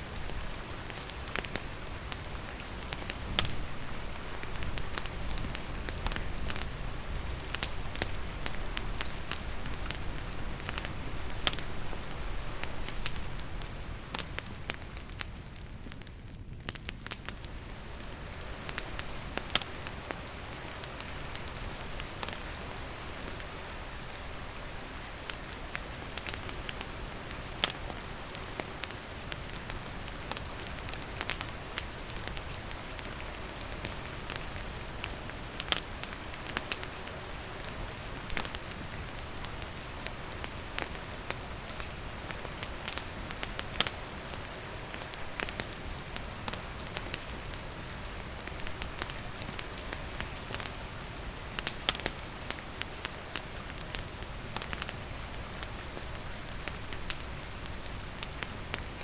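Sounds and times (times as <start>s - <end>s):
campfire crackling: 0.0s - 59.0s
steady rain falling: 0.0s - 59.0s.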